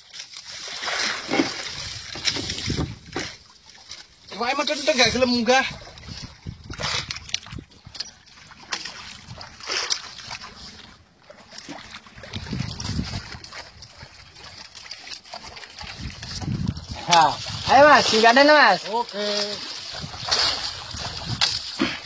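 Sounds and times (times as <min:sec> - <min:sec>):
water splashing around boat: 0:00.0 - 0:22.0.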